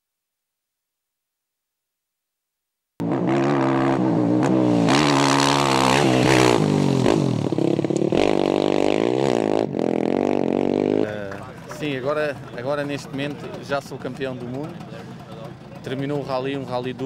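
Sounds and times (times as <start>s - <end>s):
motorcycle engine revving: 3.0s - 17.0s.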